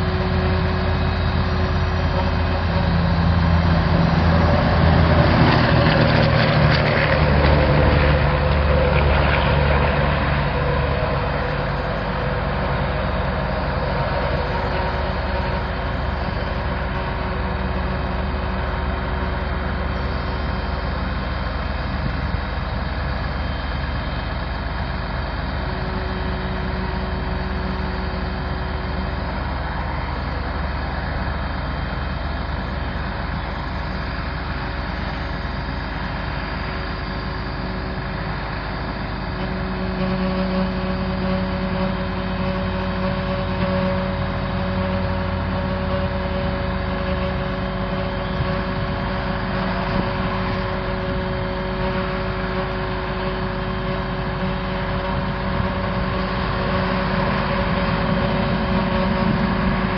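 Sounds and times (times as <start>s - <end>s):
diesel truck engine running: 0.0s - 59.9s
steady hum: 0.0s - 59.9s.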